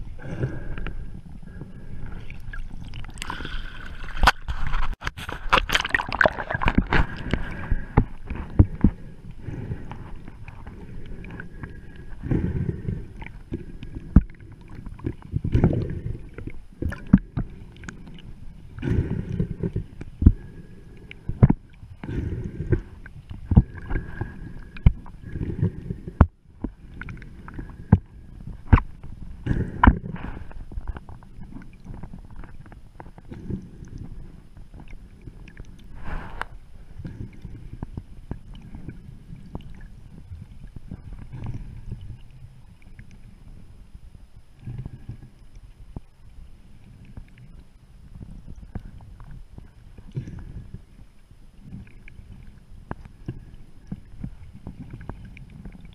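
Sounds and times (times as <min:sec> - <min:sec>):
water sloshing and gurgling: 0:00.0 - 0:55.9.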